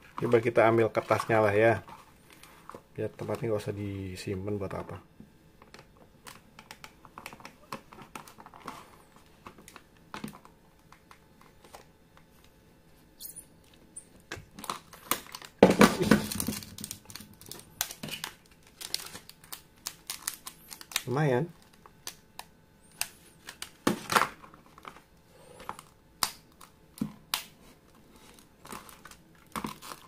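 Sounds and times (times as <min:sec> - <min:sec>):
plastic blister crinkling: 0:00.0 - 0:03.7, 0:05.6 - 0:12.6, 0:13.8 - 0:30.0.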